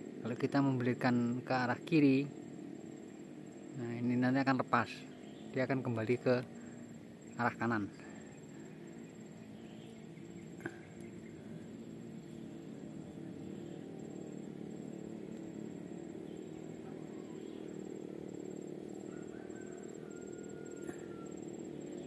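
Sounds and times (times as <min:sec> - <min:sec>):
faint high-pitched pulsing: 0:00.0 - 0:22.0
steady low hum: 0:00.0 - 0:22.0.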